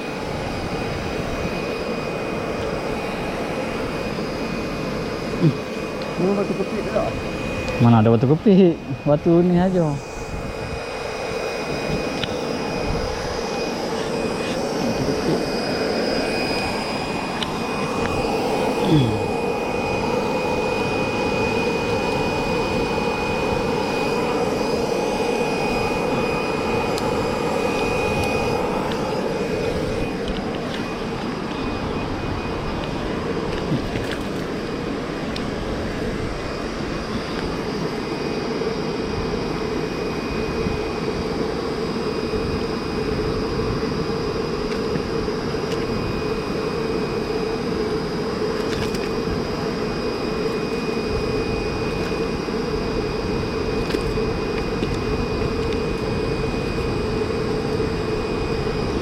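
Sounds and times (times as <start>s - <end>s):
faint high whine: 0.0s - 59.0s
mechanical drone: 0.0s - 59.0s.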